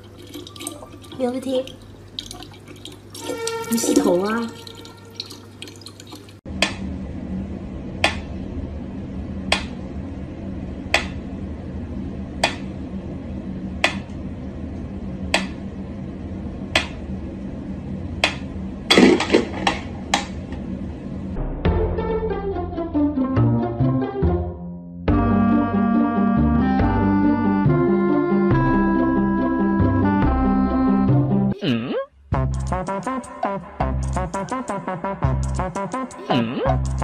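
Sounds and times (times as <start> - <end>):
low steady hum: 0.0 - 21.4, 25.1 - 37.0.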